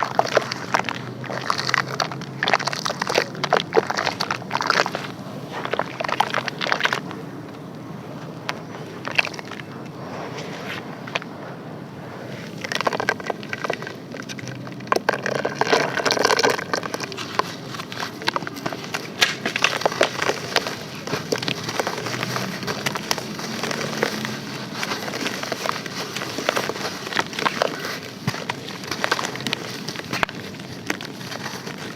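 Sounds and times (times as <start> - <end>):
charcoal crushing and crunching: 0.0 - 31.9
gritty rustle: 0.0 - 31.9.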